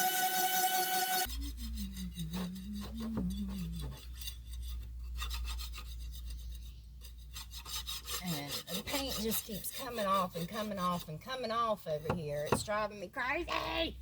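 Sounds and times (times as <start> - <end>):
sanding strokes on hull: 0.0 - 12.7.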